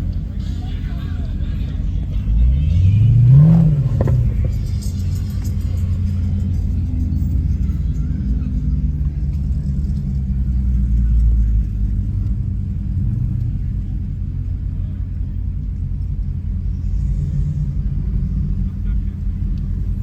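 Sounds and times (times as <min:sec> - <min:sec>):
car engine rumble inside car: 0:00.0 - 0:20.0.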